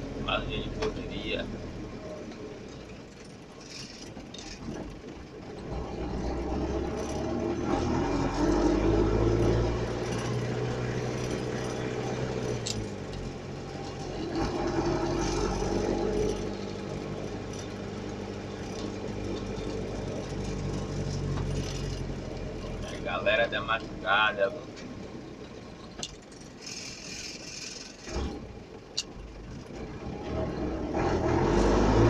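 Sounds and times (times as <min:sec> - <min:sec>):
vehicle engine pulling away: 0:04.6 - 0:32.0.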